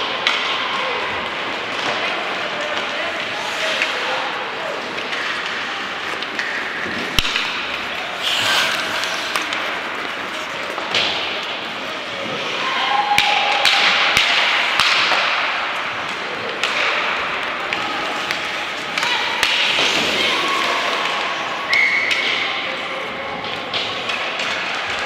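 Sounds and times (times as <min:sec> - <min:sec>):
hockey sticks and puck clacking: 0:00.0 - 0:25.0
skates scraping ice: 0:00.0 - 0:25.0.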